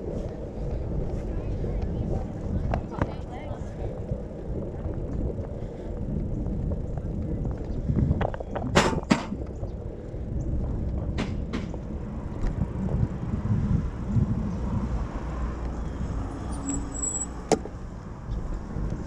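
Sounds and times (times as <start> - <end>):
bicycle road noise: 0.0 - 19.0
wind on microphone: 0.0 - 19.0.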